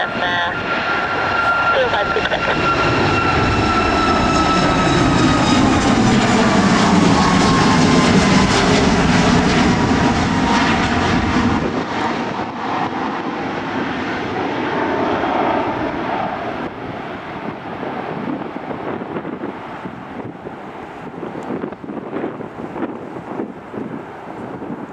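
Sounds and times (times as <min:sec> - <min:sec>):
jet engine roar: 0:00.0 - 0:24.9.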